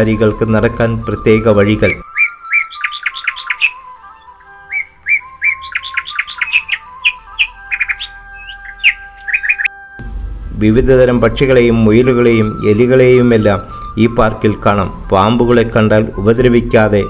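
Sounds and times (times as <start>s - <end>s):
birds chirping: 0.0s - 17.0s
soft background music: 0.0s - 17.0s.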